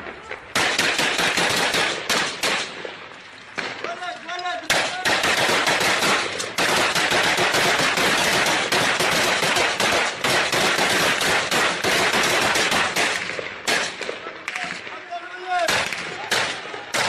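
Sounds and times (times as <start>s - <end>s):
automatic gunfire: 0.5s - 2.8s, 4.7s - 14.8s, 15.7s - 17.0s.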